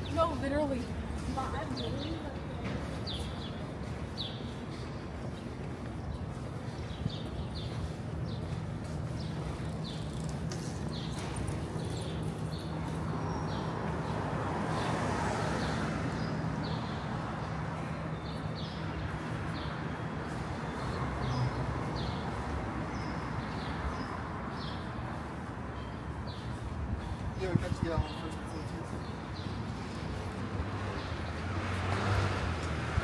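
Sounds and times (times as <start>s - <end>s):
traffic noise: 0.0s - 33.0s.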